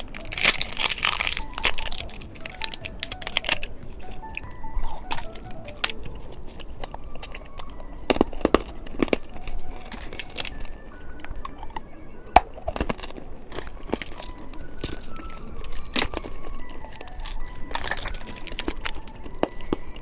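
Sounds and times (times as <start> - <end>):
chewing and crunching candy: 0.0 - 20.0.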